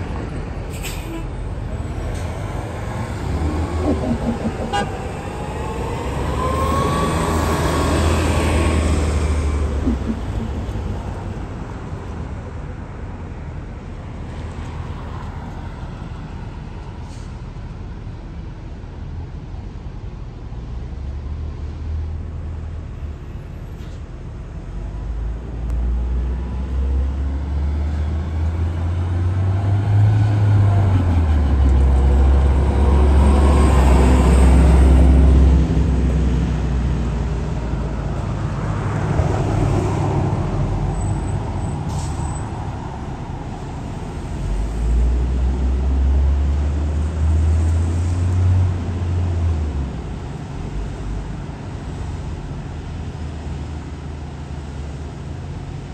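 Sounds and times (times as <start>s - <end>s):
bus engine drone: 0.0s - 55.9s.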